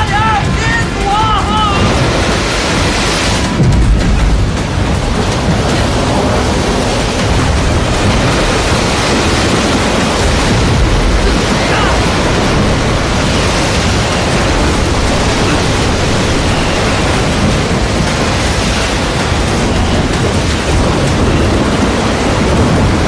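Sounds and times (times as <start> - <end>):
heavy waves: 0.0 - 23.0
wind: 0.0 - 23.0.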